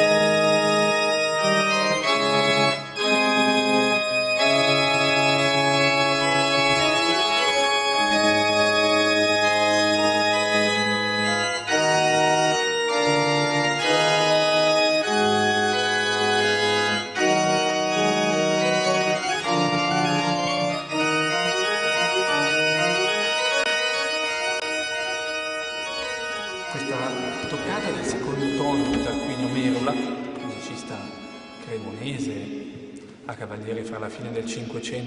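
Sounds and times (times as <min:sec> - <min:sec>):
pipe organ playing chords: 0:00.0 - 0:35.0.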